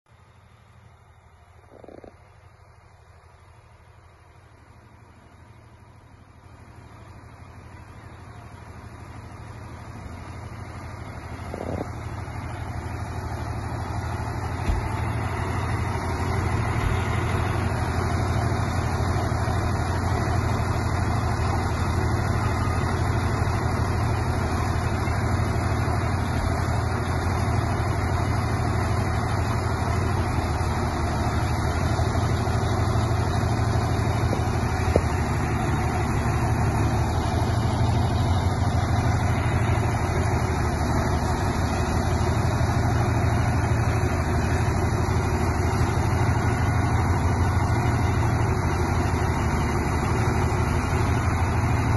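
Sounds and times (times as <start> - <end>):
diesel truck engine idling: 0.1 - 51.9.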